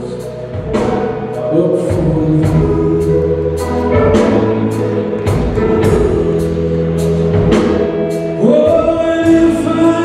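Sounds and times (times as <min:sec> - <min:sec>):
live rock band playing ballad: 0:00.0 - 0:10.0.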